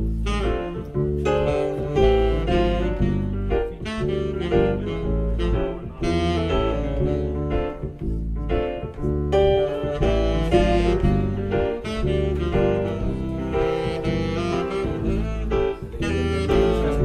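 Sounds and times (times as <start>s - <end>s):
low bass line: 0.0s - 17.0s
saxophone melody: 0.0s - 17.0s.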